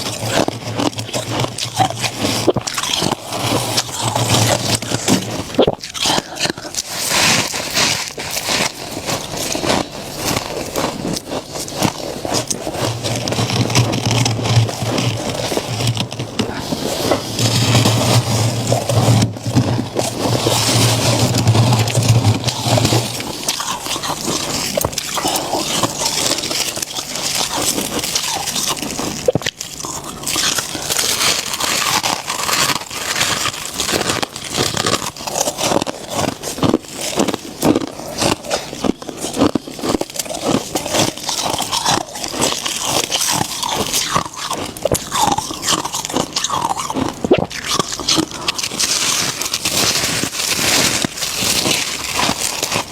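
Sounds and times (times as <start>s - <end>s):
crunching and chewing frost: 0.0s - 52.9s.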